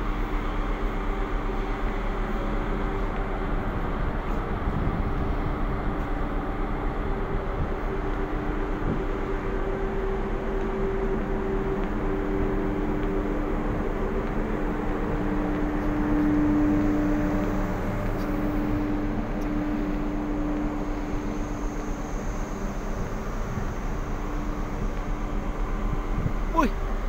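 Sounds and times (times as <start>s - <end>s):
low hum from ship: 0.0s - 27.0s
wind rushing over microphone: 1.6s - 27.0s.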